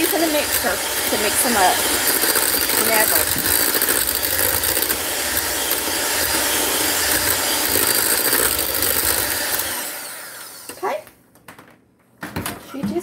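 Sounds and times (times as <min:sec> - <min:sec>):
electric hand mixer running: 0:00.0 - 0:11.0.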